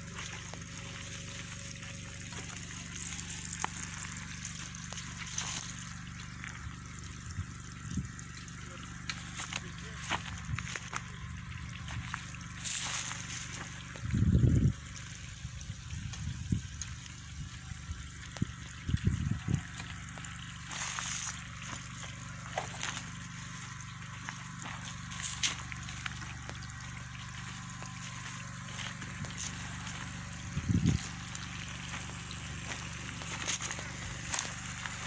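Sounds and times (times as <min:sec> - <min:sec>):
generator engine humming: 0:00.0 - 0:35.0.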